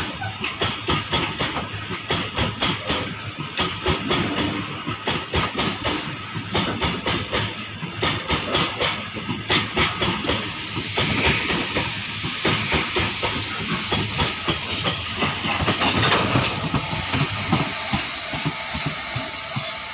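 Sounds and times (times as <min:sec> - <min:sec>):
hiss of wheels on rail: 0:00.0 - 0:19.9
train wheels clattering over rail joints: 0:00.0 - 0:19.9.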